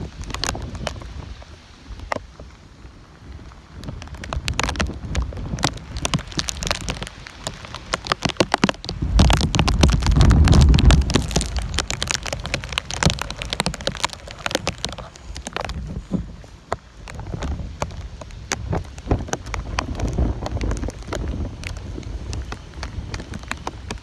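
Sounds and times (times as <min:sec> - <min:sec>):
rain hitting a hard surface: 0:00.0 - 0:24.0
wind buffeting microphone: 0:00.0 - 0:24.0.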